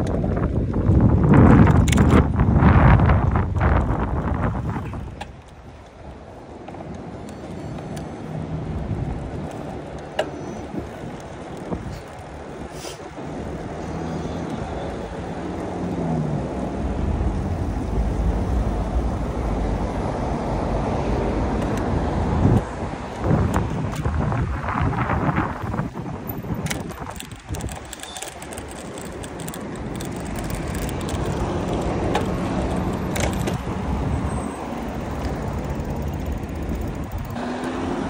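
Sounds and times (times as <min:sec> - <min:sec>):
cars passing: 0:00.0 - 0:38.0
engine hum: 0:00.0 - 0:38.0
wind rushing on microphone: 0:00.0 - 0:38.0.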